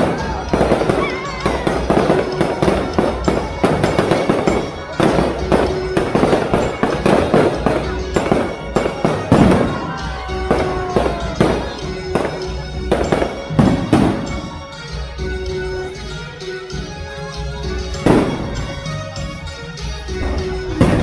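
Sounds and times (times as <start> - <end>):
fireworks bursting: 0.0 - 16.1, 17.9 - 21.0
music playing: 0.0 - 21.0.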